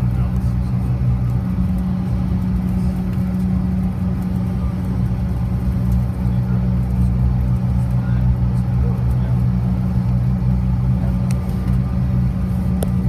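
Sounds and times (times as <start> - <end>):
jet cabin drone: 0.0 - 13.0.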